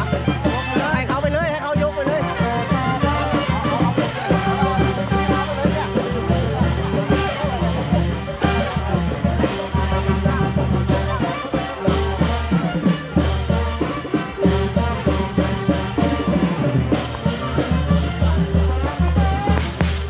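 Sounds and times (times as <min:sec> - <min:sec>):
music with drums and brass: 0:00.0 - 0:20.0.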